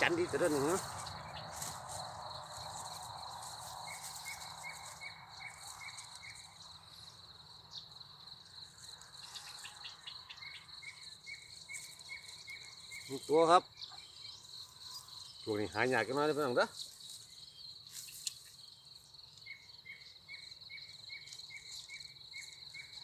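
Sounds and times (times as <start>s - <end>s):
insect short chirps: 0.0s - 15.6s, 16.2s - 23.0s
insect high-pitched trill: 0.0s - 23.0s.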